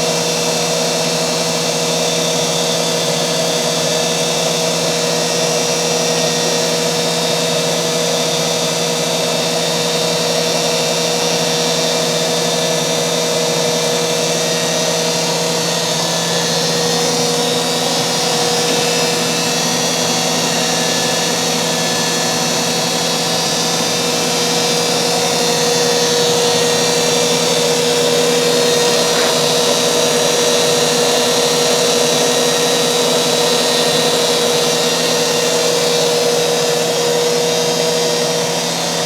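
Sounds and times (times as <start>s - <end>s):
grinder machine whine: 0.0s - 39.0s.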